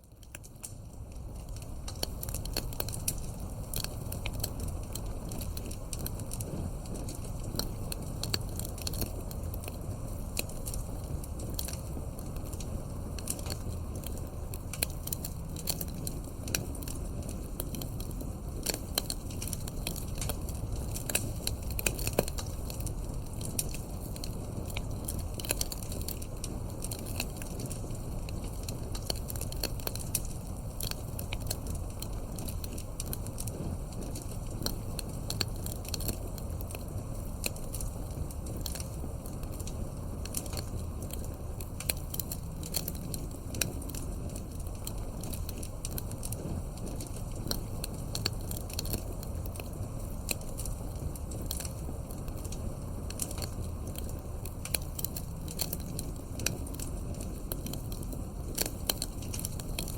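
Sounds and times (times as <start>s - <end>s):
logs crackling and popping: 0.0s - 59.9s
low rumble of flame: 0.0s - 59.9s.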